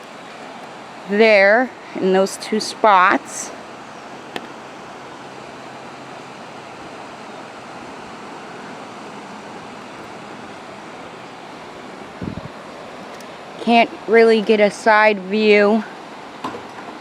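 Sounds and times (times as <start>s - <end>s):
river water rushing: 0.0s - 15.1s, 15.8s - 17.0s.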